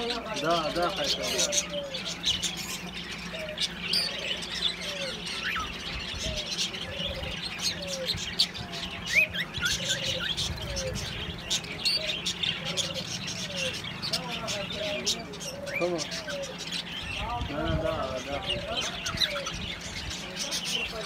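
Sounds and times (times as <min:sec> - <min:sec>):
budgerigars chattering and chirping: 0:00.0 - 0:21.0
steady low hum: 0:00.0 - 0:21.0.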